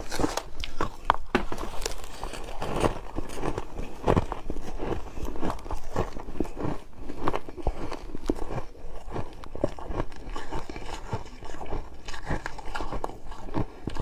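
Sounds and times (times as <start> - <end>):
crisp object crunching by hand: 0.0 - 14.0.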